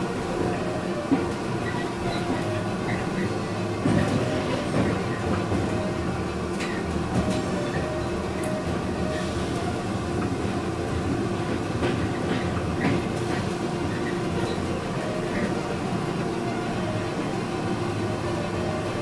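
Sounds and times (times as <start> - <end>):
train rolling rumble: 0.0 - 19.0
wheel clicks over rails: 0.2 - 17.0.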